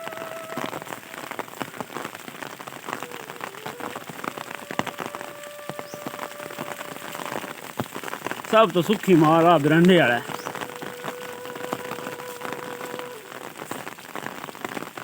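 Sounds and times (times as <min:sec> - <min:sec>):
raindrops striking close by: 0:00.0 - 0:15.0
steady rain hiss: 0:00.0 - 0:15.0.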